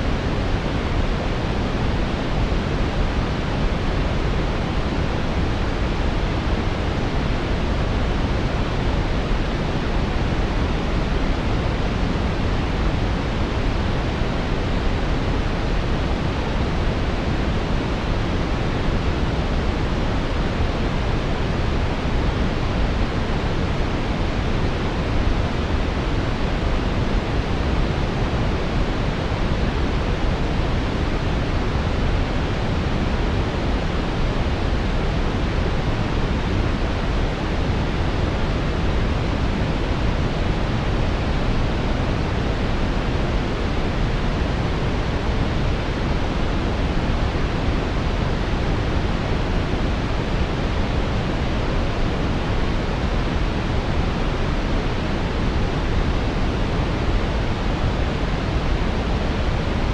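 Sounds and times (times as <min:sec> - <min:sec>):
brown noise: 0:00.0 - 0:59.9.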